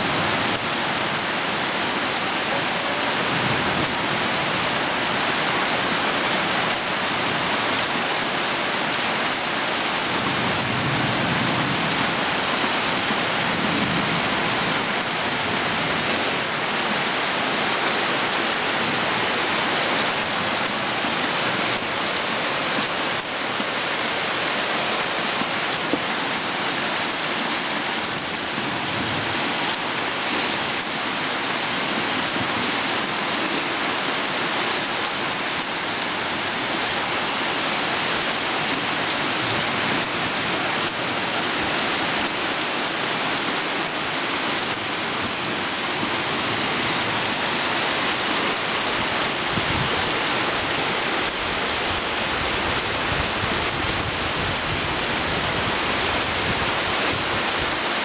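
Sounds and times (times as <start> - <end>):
heavy rain on roof and ground: 0.0 - 58.0.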